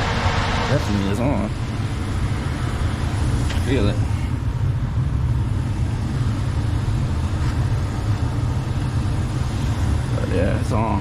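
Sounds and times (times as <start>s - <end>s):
gas furnace running: 0.0s - 11.0s.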